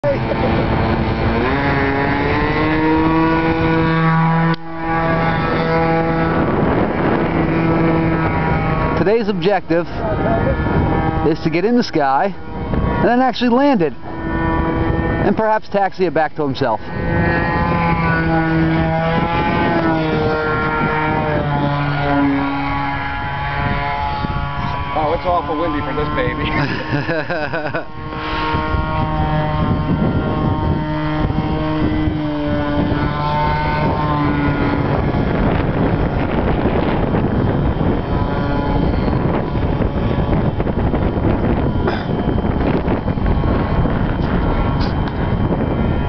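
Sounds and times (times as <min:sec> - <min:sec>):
model airplane motor buzzing: 0:00.0 - 0:46.0
wind buffeting microphone: 0:00.0 - 0:46.0.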